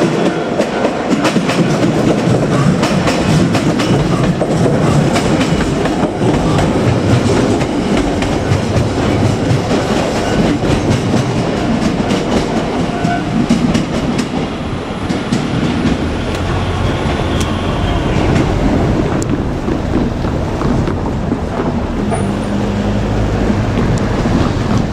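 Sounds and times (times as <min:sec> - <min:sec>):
train rumble: 0:00.0 - 0:24.9
train wheels clickety-clack: 0:00.0 - 0:24.9.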